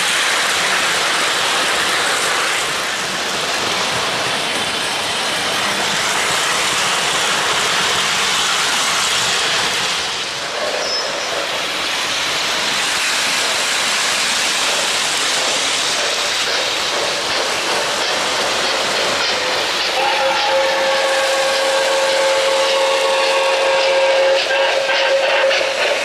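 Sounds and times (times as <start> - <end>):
model trains rolling on track: 0.0 - 26.0.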